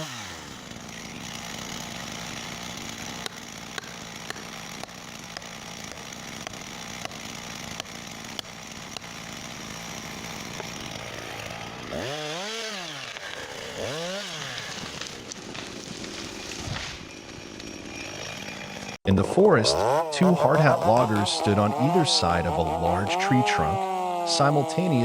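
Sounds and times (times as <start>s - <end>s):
two-stroke chainsaw running: 0.0s - 25.0s.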